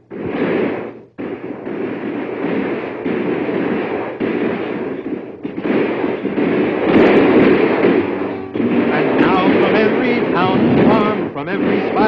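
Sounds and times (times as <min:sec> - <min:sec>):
cannon and musket fire: 0:00.0 - 0:12.0
cannon blast: 0:00.0 - 0:12.0.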